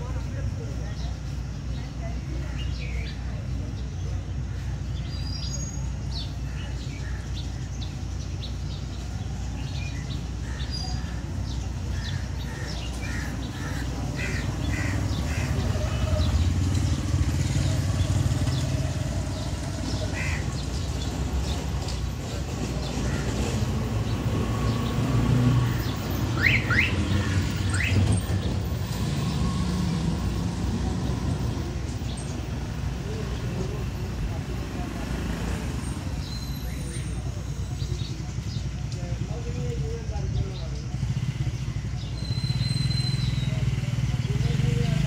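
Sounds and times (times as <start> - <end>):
low rumble of road traffic: 0.0 - 45.0
small birds chirping: 0.0 - 45.0.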